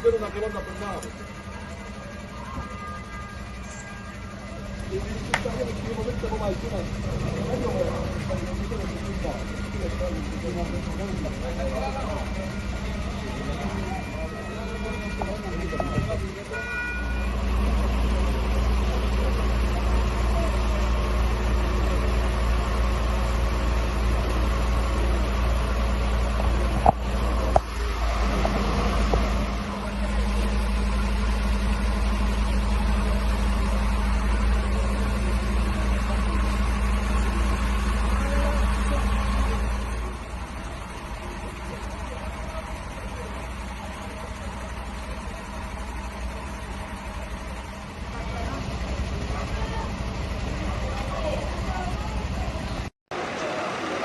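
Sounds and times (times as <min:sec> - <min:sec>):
fire truck engine idling: 0:00.0 - 0:54.0.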